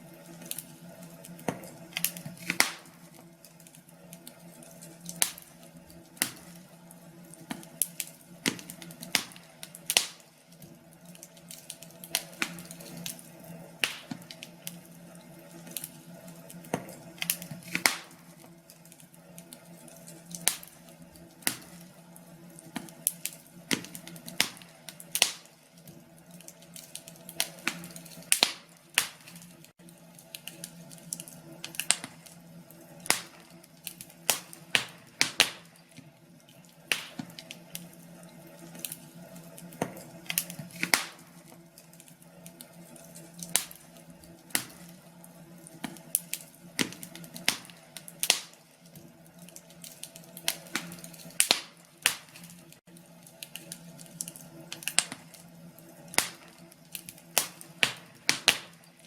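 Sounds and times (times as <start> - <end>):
log fire crackling and popping: 0.0 - 59.0.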